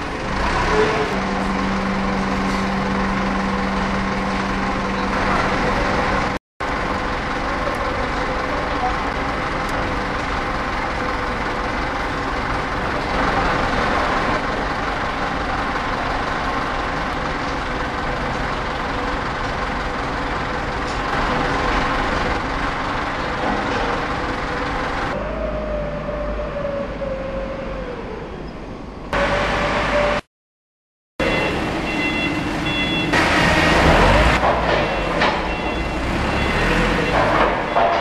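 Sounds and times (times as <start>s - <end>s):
forklift engine running: 0.0s - 26.6s, 31.2s - 38.0s.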